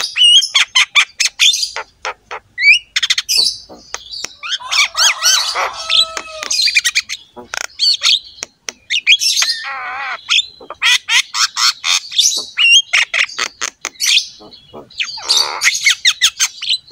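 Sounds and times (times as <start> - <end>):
bird grating rasping call: 0.0 - 16.9
bird singing varied song: 0.0 - 16.9.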